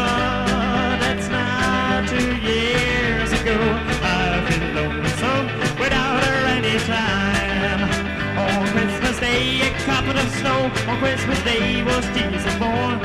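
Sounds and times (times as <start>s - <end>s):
drums keeping a steady beat: 0.0s - 13.0s
rock and roll band music: 0.0s - 13.0s
sliding lead melody: 0.0s - 13.0s.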